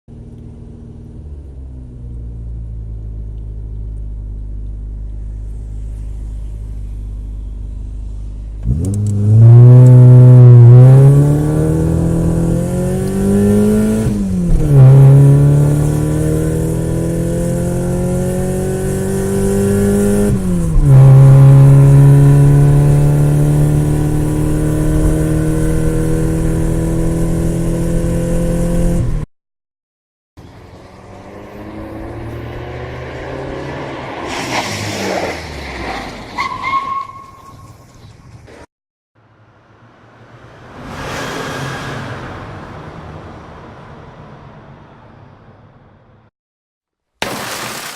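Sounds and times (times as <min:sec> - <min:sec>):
car engine idling and accelerating: 0:00.1 - 0:29.3, 0:30.4 - 0:46.3.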